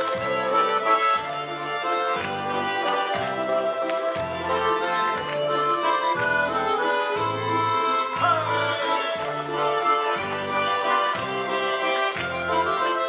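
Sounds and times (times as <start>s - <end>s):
accordion folk dance melody: 0.0s - 13.0s.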